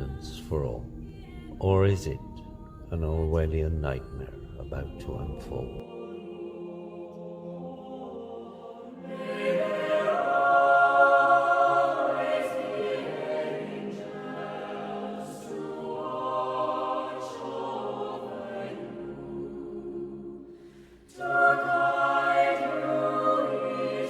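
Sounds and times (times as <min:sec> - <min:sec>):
choir singing wordless: 0:00.0 - 0:24.0.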